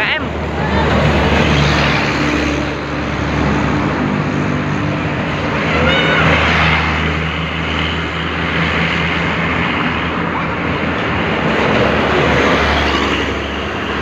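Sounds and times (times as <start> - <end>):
large vehicle engine humming: 0.0 - 14.0
road and traffic noise: 0.0 - 14.0.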